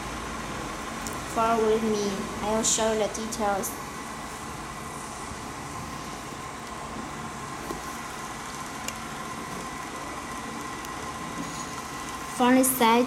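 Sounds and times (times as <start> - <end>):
faint fan whine: 0.0 - 13.0.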